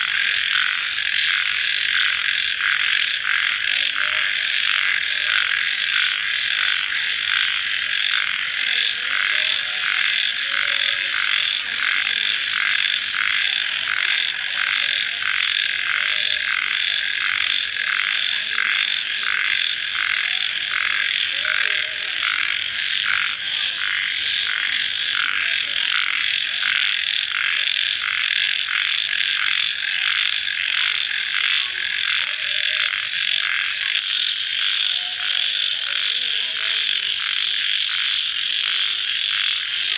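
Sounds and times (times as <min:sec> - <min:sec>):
crickets and frogs trilling: 0:00.0 - 0:39.9.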